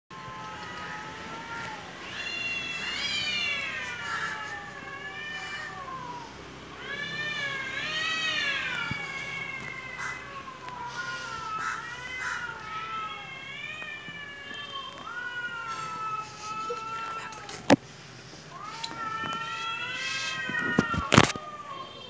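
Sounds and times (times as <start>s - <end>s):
cats yowling: 0.1s - 17.8s, 18.5s - 22.0s.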